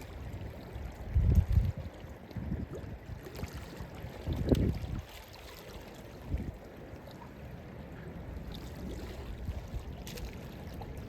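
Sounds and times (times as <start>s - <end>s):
wind rumble on microphone: 0.0s - 6.7s, 8.0s - 11.0s
water sloshing against shore: 0.0s - 11.0s.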